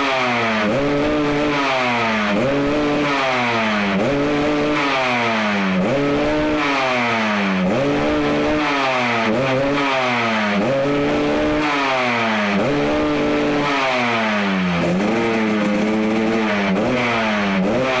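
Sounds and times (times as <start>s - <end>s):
two-stroke engine revving: 0.0s - 18.0s.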